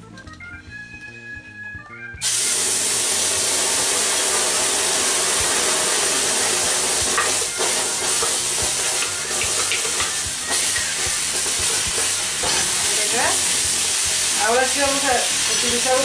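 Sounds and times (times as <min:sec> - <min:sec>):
sauce sizzling in hot oil: 0:02.2 - 0:16.0.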